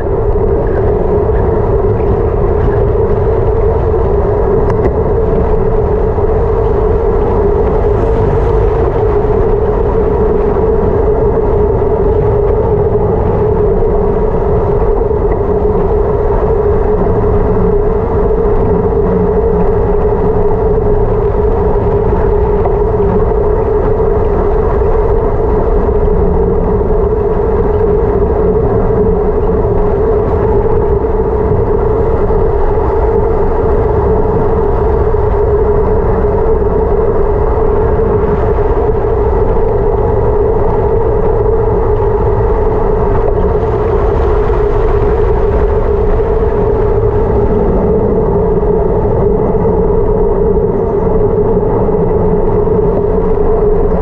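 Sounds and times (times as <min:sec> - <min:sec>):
constant hum: 0:00.0 - 0:54.0
tyre and road noise: 0:00.0 - 0:54.0
wind rushing over camera: 0:00.0 - 0:54.0.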